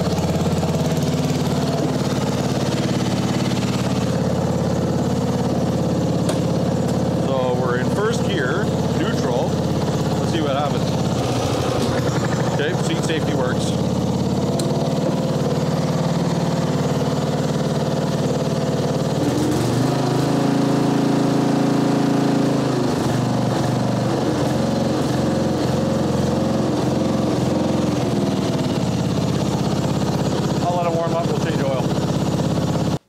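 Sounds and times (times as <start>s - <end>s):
riding mower engine running: 0.0s - 33.0s.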